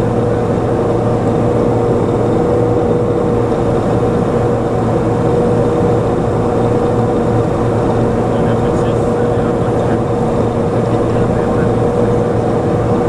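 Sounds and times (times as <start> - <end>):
high engine whine: 0.0 - 13.0
propeller aircraft engine drone: 0.0 - 13.0.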